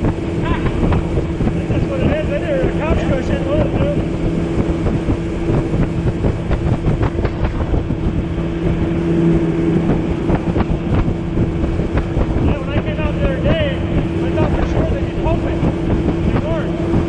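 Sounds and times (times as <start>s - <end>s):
hull knocking on water: 0.0s - 17.0s
outboard motor running: 0.0s - 17.0s.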